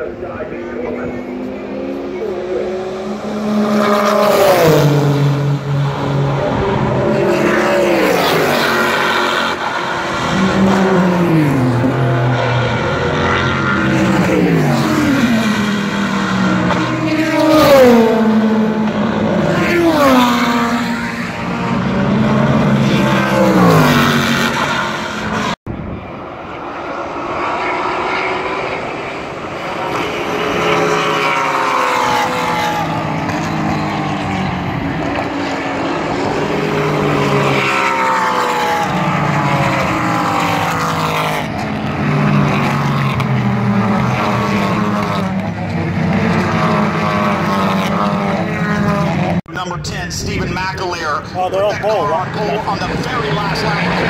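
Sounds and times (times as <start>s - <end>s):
race cars passing at speed: 0.0s - 54.0s.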